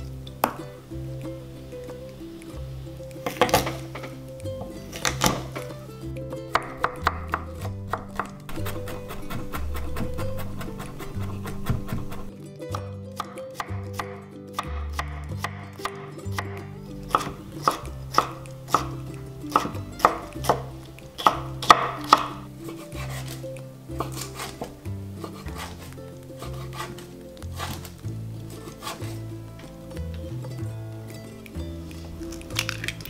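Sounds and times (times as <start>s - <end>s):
soft background music: 0.0s - 33.0s.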